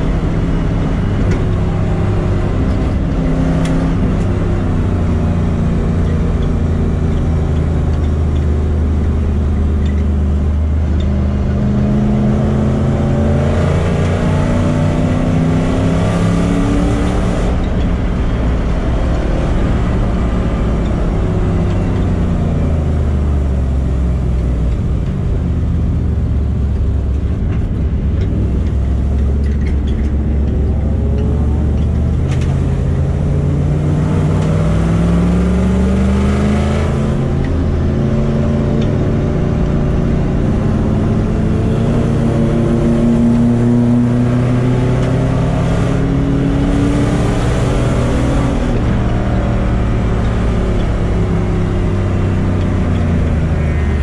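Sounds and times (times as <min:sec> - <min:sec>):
race car engine from inside cabin: 0:00.0 - 0:54.0.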